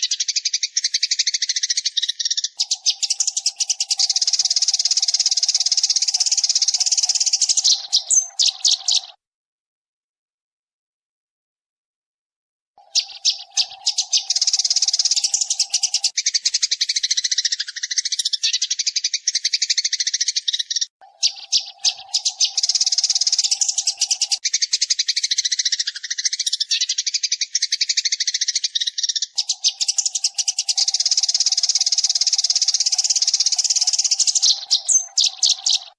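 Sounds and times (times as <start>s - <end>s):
sparrows chattering: 0.0s - 9.2s, 12.8s - 35.9s.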